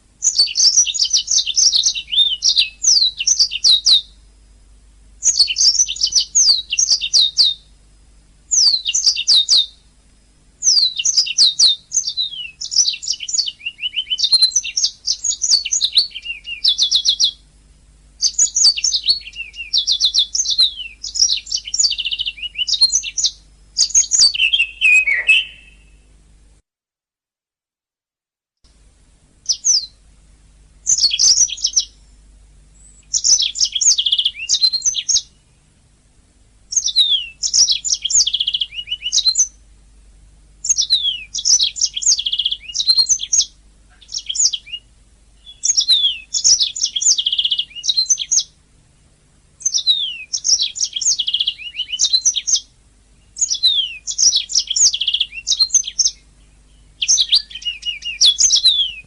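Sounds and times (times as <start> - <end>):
faint low hum: 0.0 - 26.6, 28.6 - 59.0
canary singing trills: 0.2 - 4.2, 5.2 - 7.7, 8.5 - 9.9, 10.6 - 17.4, 18.2 - 26.1, 29.4 - 30.0, 30.8 - 32.2, 32.8 - 35.7, 36.7 - 39.7, 40.6 - 48.6, 49.6 - 59.0.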